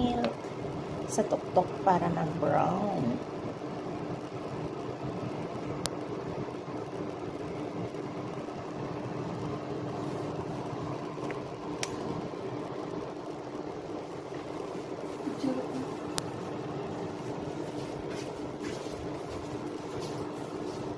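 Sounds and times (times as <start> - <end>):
oven fan humming: 0.0 - 20.9.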